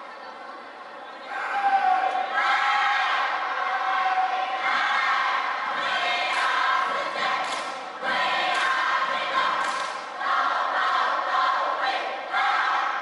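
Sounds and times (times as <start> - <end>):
crowd chanting a cheer: 1.2 - 13.0.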